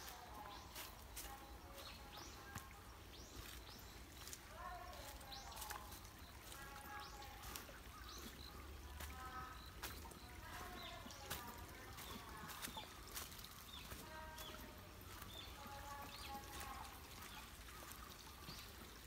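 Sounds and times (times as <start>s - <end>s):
footsteps crunching on dry leaves: 0.0s - 18.9s
birds chirping: 0.0s - 19.0s
faint stream trickling: 0.0s - 19.0s.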